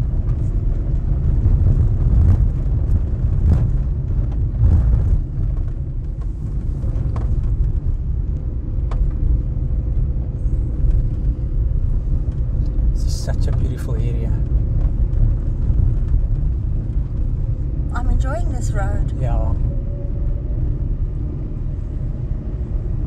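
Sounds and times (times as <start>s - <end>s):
tyres rumbling on gravel: 0.0s - 19.5s.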